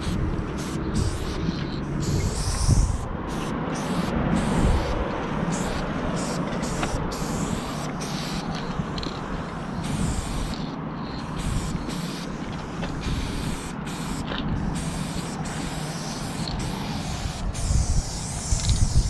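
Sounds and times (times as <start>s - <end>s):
spray paint can hissing: 0.0s - 19.0s
steady low rumble: 0.0s - 19.0s.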